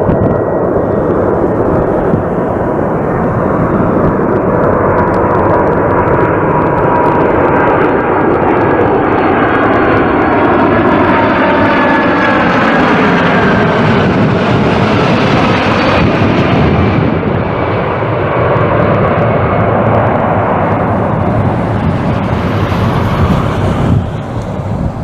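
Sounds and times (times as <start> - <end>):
jet engines roaring with whine: 0.0 - 25.0.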